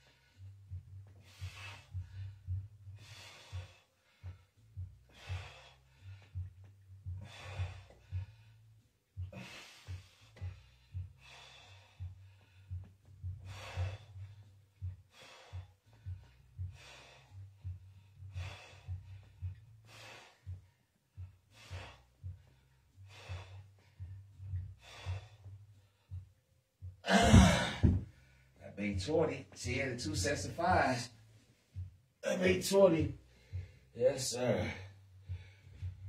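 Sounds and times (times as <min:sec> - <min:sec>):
man breathing hard: 0:00.0 - 0:28.6, 0:32.7 - 0:36.0.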